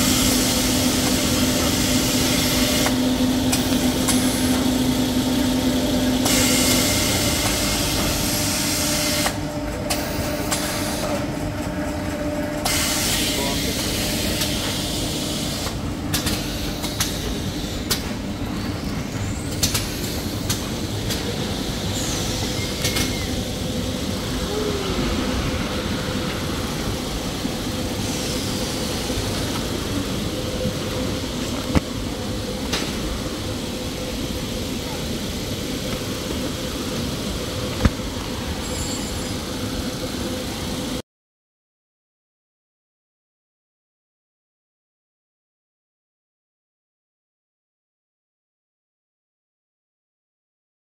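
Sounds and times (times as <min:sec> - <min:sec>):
production line machinery hum: 0:00.0 - 0:41.0.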